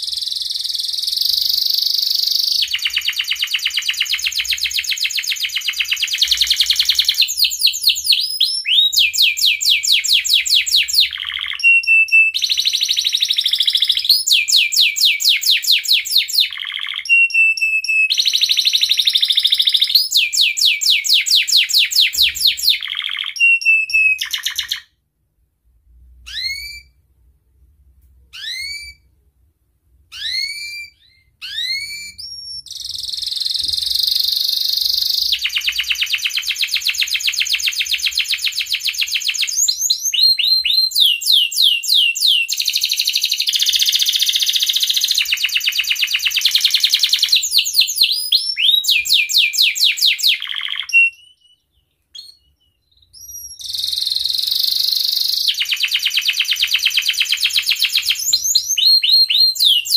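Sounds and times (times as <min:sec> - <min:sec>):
canary singing trills: 0:00.0 - 0:24.9, 0:26.3 - 0:27.0, 0:28.3 - 0:29.1, 0:30.1 - 0:59.9.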